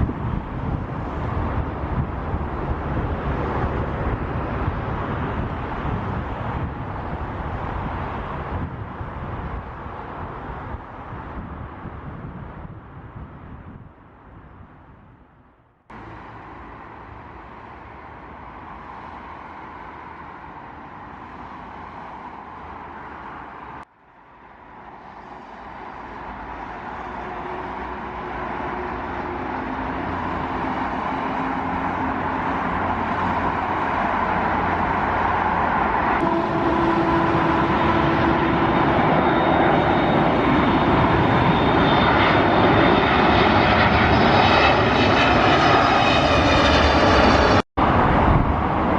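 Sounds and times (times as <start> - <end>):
jet airliner engines droning: 0.0 - 15.2, 15.9 - 48.9.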